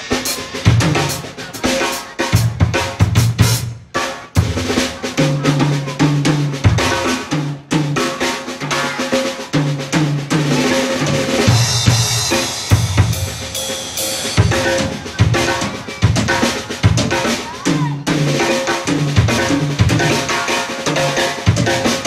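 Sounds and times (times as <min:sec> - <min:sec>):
cymbals: 0:00.0 - 0:22.0
jazz band playing: 0:00.0 - 0:22.0
snare and bass drum: 0:00.0 - 0:22.0.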